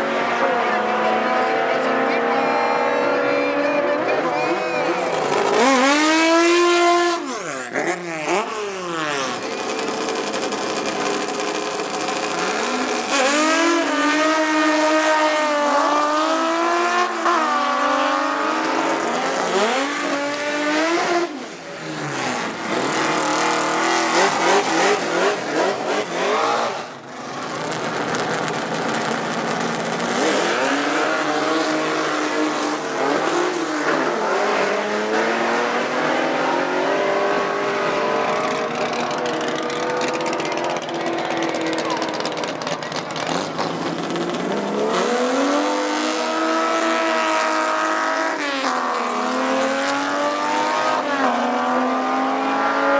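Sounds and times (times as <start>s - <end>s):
drag car engines at full throttle: 0.0s - 52.9s.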